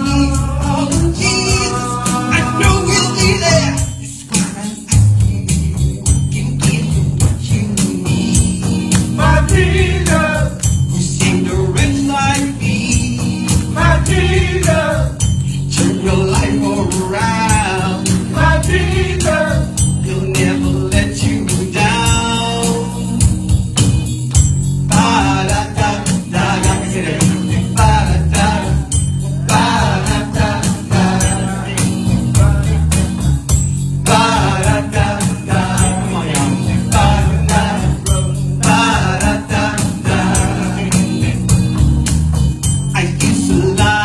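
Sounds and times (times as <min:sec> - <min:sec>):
live gospel band: 0:00.0 - 0:44.0
tambourine jingling: 0:00.0 - 0:44.0.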